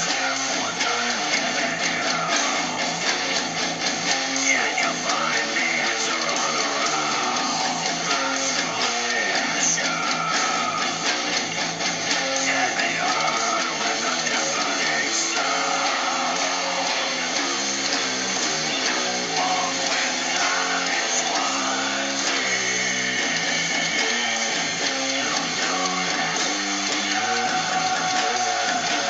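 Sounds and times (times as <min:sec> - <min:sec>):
electric guitar strumming chords: 0:00.0 - 0:29.0.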